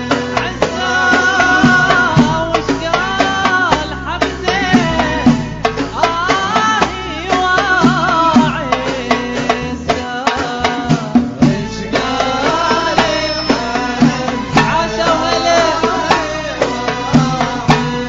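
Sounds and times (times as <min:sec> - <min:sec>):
hand drum percussion: 0:00.0 - 0:18.0
middle eastern style music: 0:00.0 - 0:18.0.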